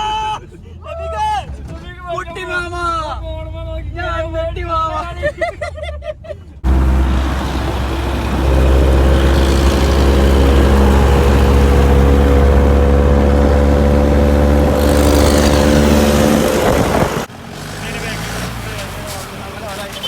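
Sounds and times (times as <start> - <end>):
vehicle engine rumbling: 1.4 - 20.0.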